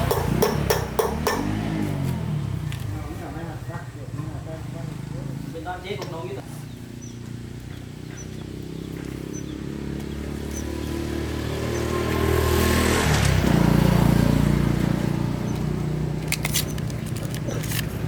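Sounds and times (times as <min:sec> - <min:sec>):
motorbike engine running: 0:00.0 - 0:05.8, 0:06.5 - 0:18.0.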